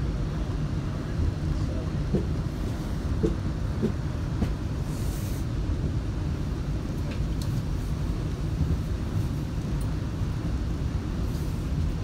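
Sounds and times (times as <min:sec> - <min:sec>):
train rumbling from inside: 0:00.0 - 0:12.0.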